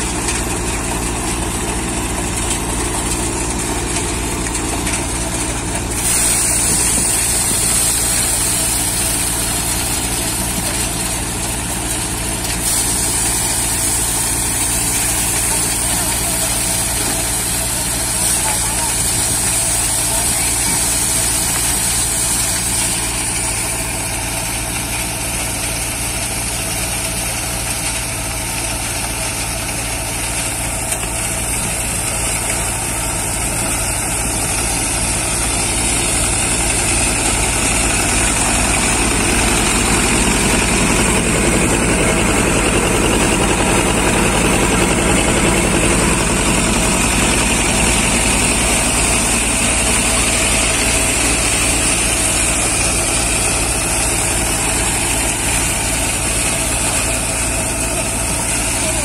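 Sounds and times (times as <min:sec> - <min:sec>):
thresher drum whirring hum: 0:00.0 - 0:59.0
tractor diesel engine running: 0:00.0 - 0:59.0.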